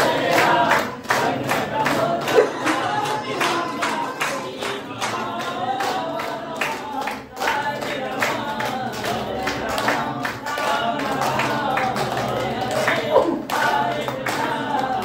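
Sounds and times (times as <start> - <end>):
congregation singing a hymn: 0.0 - 15.0
people clapping a steady beat: 0.0 - 15.0.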